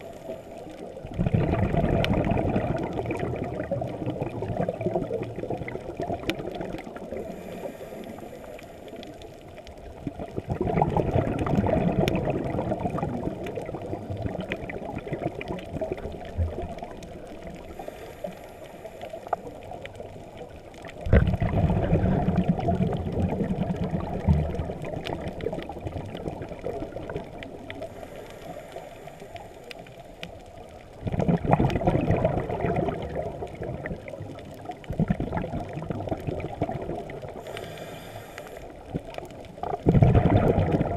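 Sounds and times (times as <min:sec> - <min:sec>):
muffled underwater rushing: 0:00.0 - 0:40.9.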